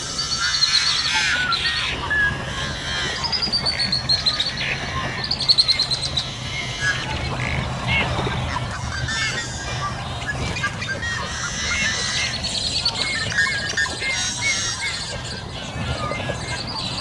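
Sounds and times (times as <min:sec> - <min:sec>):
low steady hum: 0:00.0 - 0:17.0
duckling peeping: 0:00.1 - 0:17.0.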